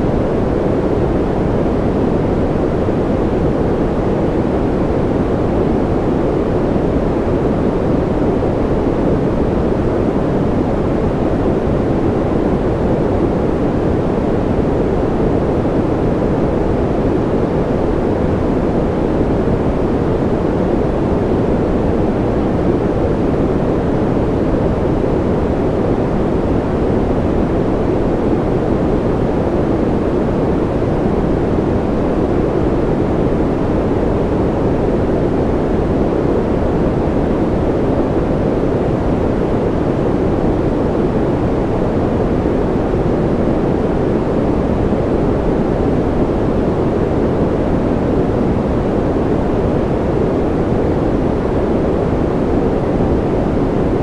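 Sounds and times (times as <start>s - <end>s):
deep white noise hiss: 0.0s - 54.0s.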